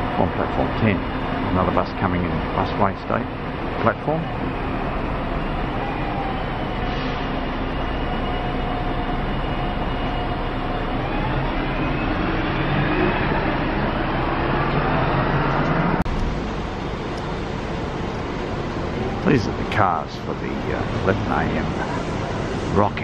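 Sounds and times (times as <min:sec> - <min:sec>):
diesel buses rumbling: 0:00.0 - 0:23.0
train arriving: 0:00.0 - 0:23.0.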